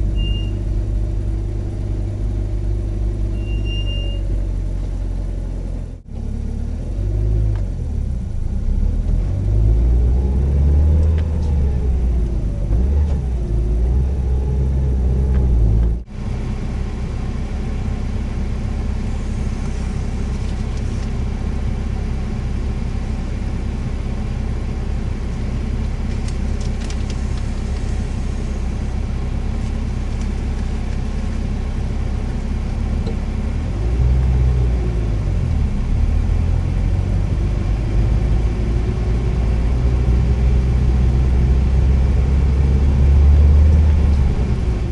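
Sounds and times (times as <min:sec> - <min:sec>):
car engine low rumble: 0:00.0 - 0:44.9.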